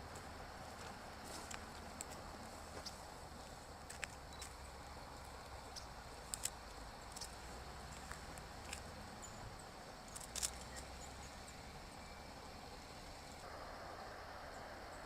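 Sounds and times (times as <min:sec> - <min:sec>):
background hiss: 0:00.0 - 0:15.0
low hum: 0:00.0 - 0:15.0.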